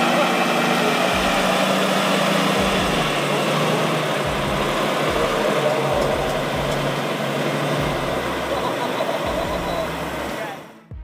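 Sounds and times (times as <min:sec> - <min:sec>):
heavy truck engine running hard: 0:00.0 - 0:11.0.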